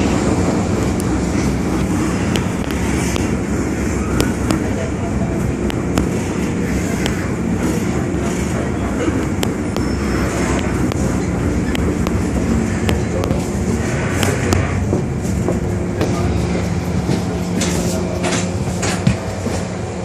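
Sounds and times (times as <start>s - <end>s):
train rumble inside car: 0.0s - 20.0s.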